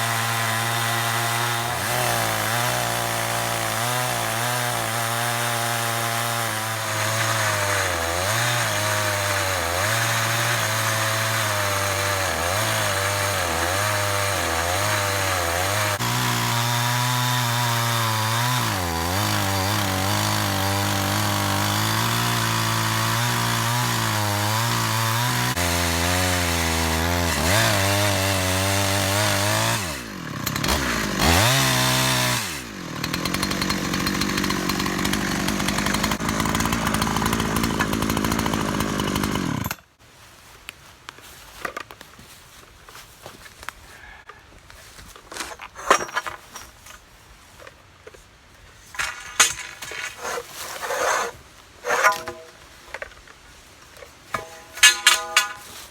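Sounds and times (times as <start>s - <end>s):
chainsaw cutting through log: 0.0s - 39.9s, 48.9s - 52.6s, 54.3s - 55.9s.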